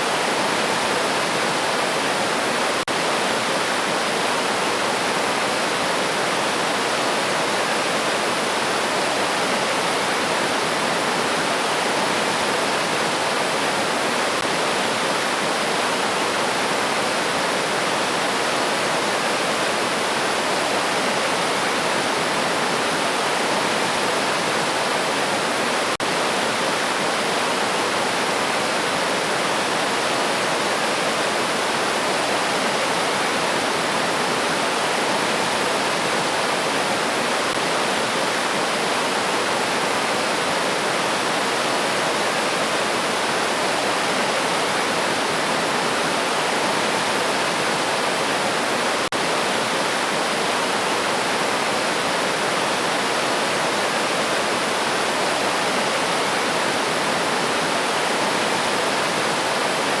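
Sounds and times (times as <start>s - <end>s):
river water rushing: 0.0s - 60.0s.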